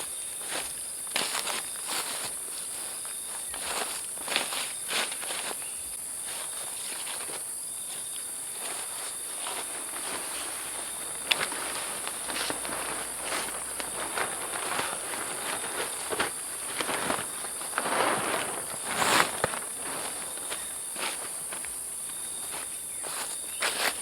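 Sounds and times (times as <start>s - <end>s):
high-pitched insect chorus: 0.0s - 24.0s
crunching and rustling: 0.4s - 24.0s.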